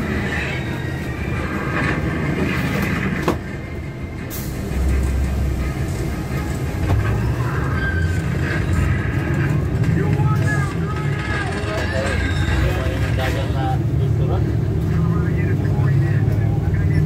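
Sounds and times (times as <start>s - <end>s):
bus engine and tyre rumble: 0.0s - 17.0s.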